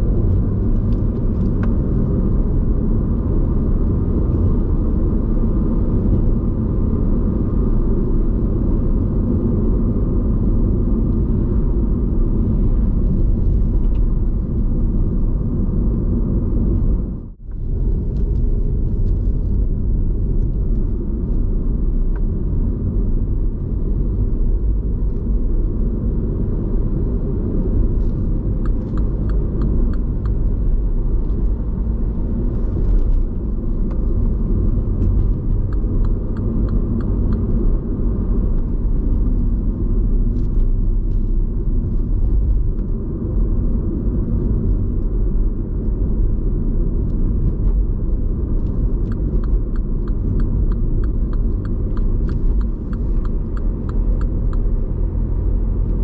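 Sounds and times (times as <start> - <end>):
car cabin engine and road noise: 0.0 - 56.0.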